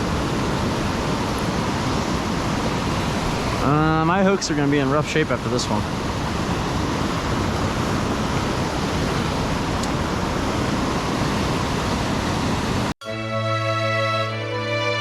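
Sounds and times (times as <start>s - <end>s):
water rushing through spillway: 0.0s - 12.9s.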